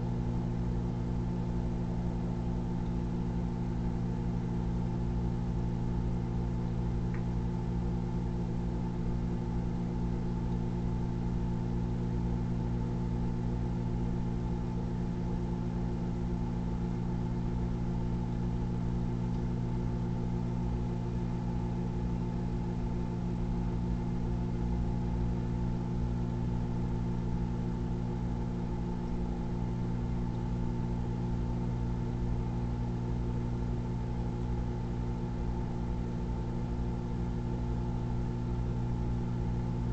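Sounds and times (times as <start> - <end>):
microwave oven humming: 0.0 - 39.9.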